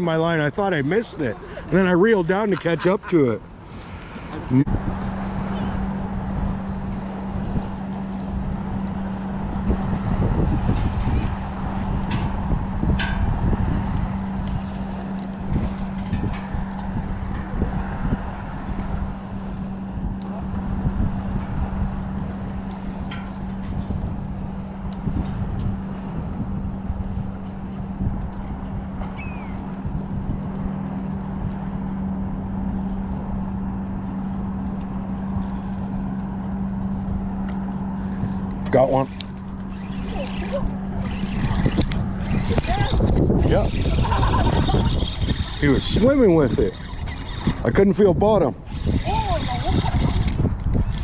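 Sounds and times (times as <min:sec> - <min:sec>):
low motor drone: 0:00.0 - 0:51.0
wind on microphone: 0:04.6 - 0:51.0.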